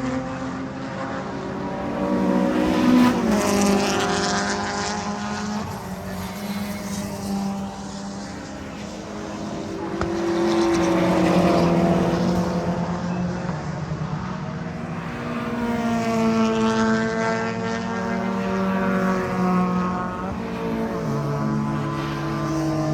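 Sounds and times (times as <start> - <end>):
race cars passing: 0.0 - 22.9.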